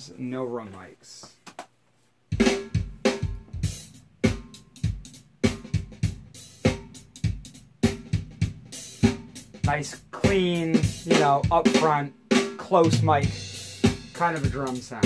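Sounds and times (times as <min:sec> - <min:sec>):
drum kit playing a steady beat: 0:02.3 - 0:15.0.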